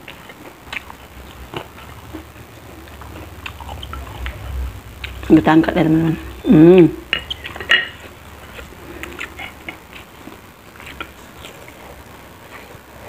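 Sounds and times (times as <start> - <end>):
biting and chewing crispy food: 0.0 - 5.2, 7.2 - 13.0.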